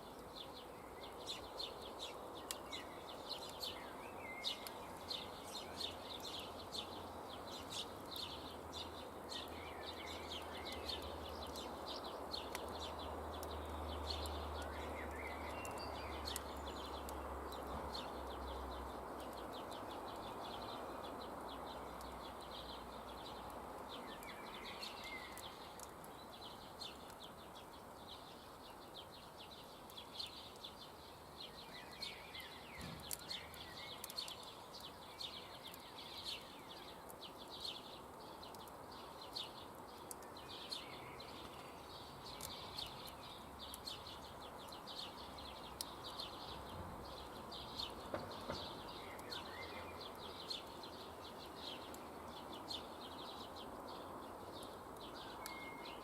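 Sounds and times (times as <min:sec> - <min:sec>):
campfire crackling: 0:00.0 - 0:56.0
steady outdoor hiss: 0:00.0 - 0:56.0.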